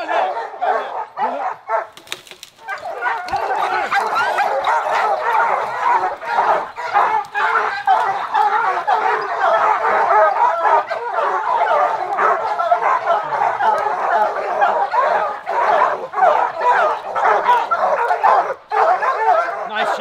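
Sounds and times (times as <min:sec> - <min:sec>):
hounds barking and baying: 0:00.0 - 0:20.0.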